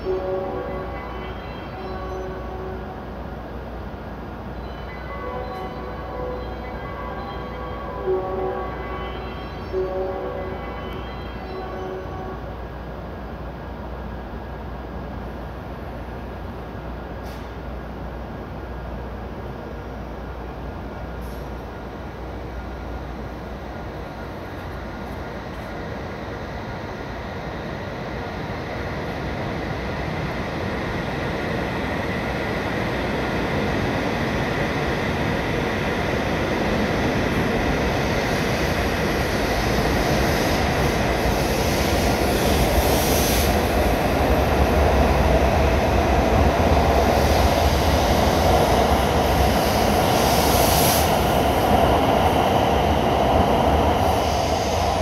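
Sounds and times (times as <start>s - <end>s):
high-speed train running noise: 0.0s - 55.0s.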